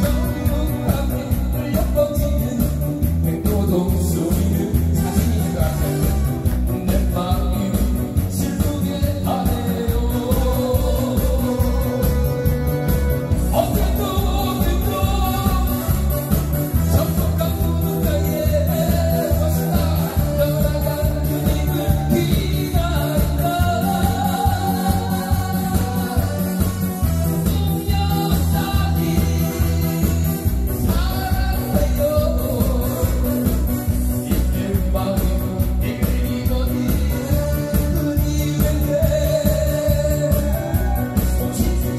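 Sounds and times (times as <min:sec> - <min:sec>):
backing track with steady beat: 0:00.0 - 0:41.9
person singing into a microphone: 0:00.0 - 0:41.9.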